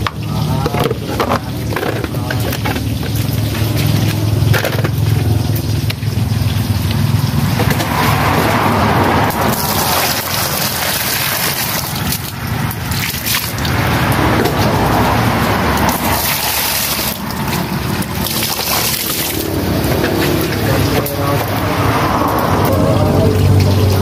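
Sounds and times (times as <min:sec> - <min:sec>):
water pouring into a basin: 0:00.0 - 0:24.0.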